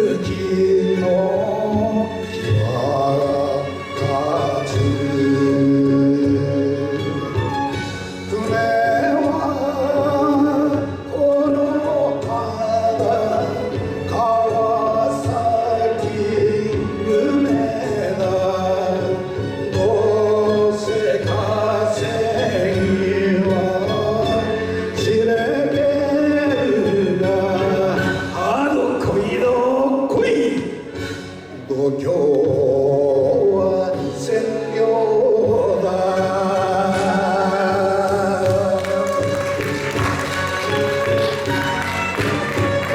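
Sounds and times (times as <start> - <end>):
musical accompaniment: 0.0 - 42.9
person singing: 0.0 - 42.9.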